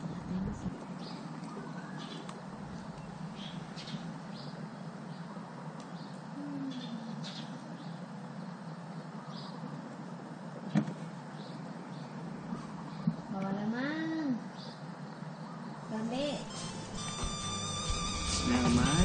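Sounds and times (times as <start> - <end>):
birds chirping: 0.0 - 10.4, 11.1 - 19.0
steady background hiss: 0.0 - 19.0.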